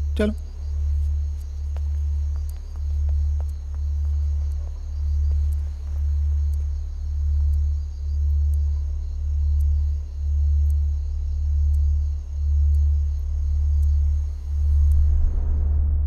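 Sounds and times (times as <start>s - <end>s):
low bass drone: 0.0s - 16.0s.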